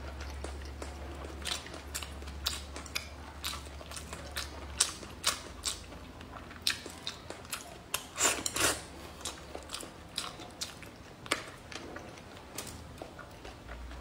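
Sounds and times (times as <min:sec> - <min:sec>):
wet chewing and mouth clicks: 0:00.0 - 0:14.0.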